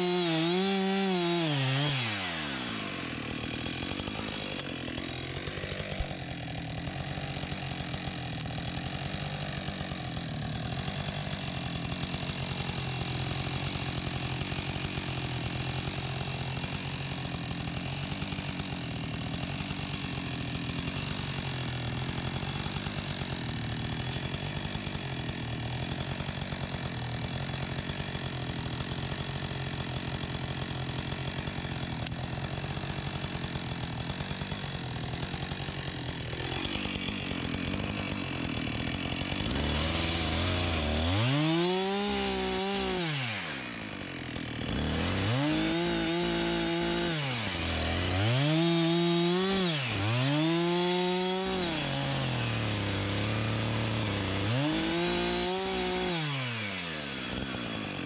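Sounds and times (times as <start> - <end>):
chainsaw revs falling then idling: 0.0 - 58.0.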